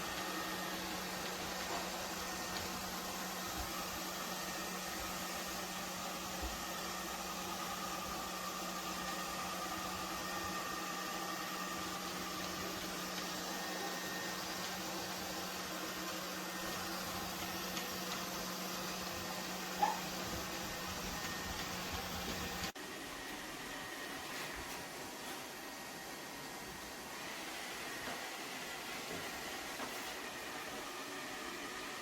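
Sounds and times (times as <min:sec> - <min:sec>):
robot vacuum running: 0:00.0 - 0:32.0.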